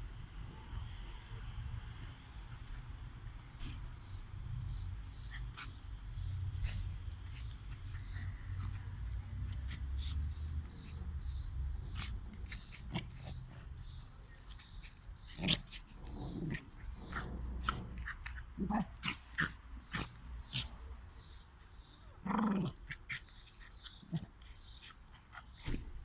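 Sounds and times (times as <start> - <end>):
puppy sounds: 3.6 - 25.8.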